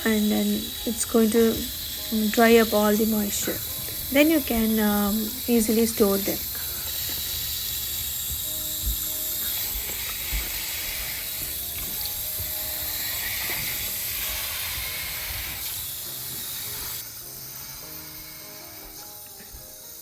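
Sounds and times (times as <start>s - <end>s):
soft background music: 0.0s - 20.0s
tap water running: 0.0s - 20.0s.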